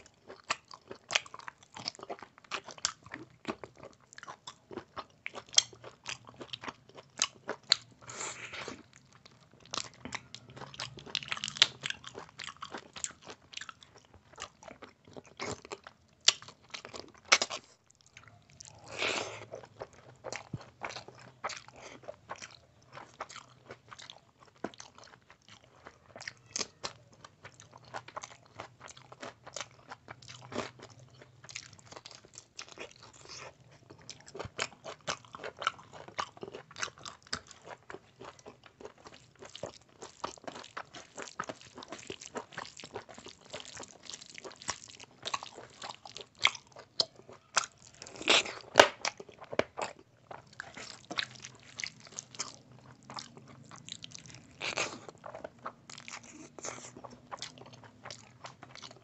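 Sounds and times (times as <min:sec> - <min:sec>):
close chewing and mouth clicks: 0:00.0 - 0:59.0.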